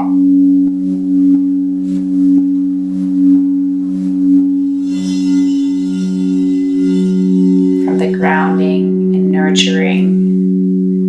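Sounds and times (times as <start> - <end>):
singing bowls ringing: 0.0 - 11.0.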